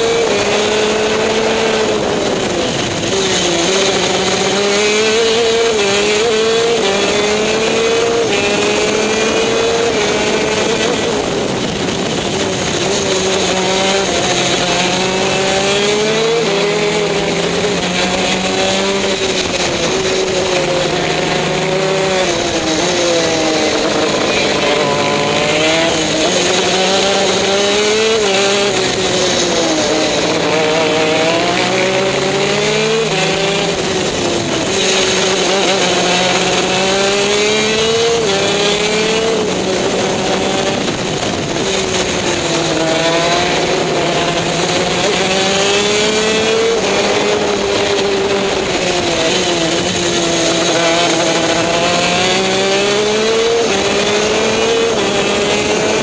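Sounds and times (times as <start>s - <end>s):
kart engine revving and shifting: 0.0s - 56.0s.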